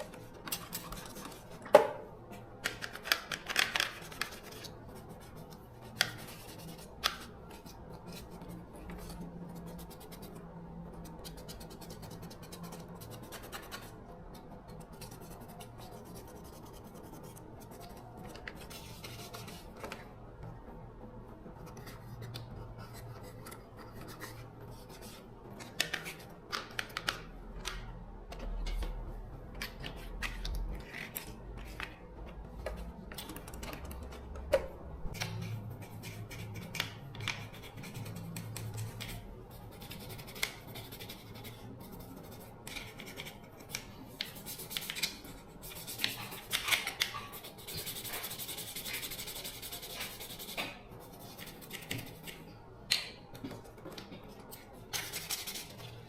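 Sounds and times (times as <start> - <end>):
hands scraping and rubbing small parts: 2.5 - 20.1, 21.6 - 56.0.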